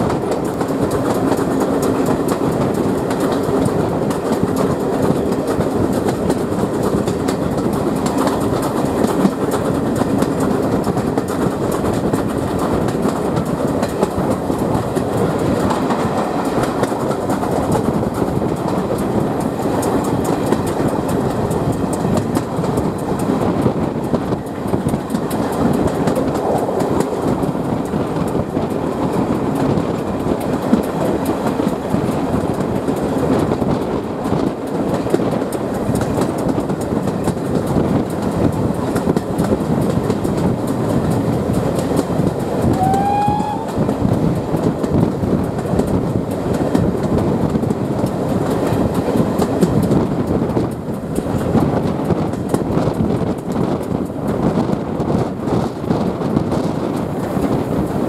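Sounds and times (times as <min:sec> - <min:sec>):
carriage wheels clattering on rails: 0:00.0 - 0:58.0.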